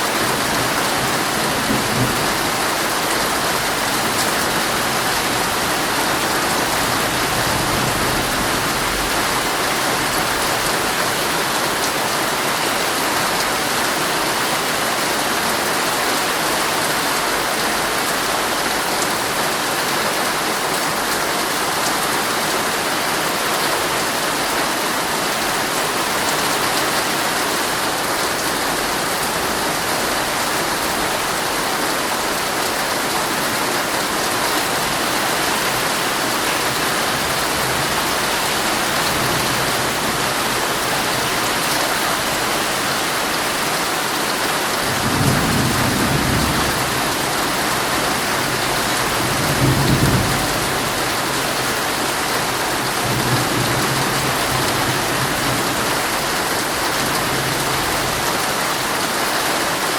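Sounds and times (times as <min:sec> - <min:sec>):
heavy rain on tent fabric: 0:00.0 - 0:59.9.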